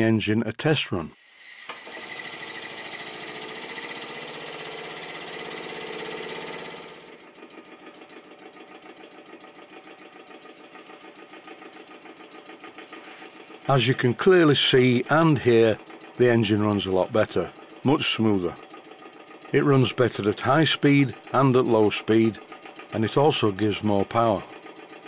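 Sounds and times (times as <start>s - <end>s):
small steam engine running fast: 1.2s - 25.0s.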